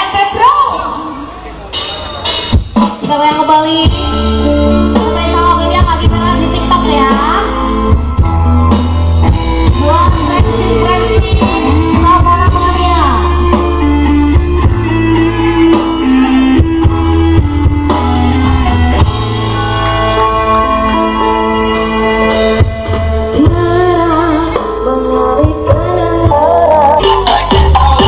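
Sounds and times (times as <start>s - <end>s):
loud music with singing and bass: 0.1s - 28.0s.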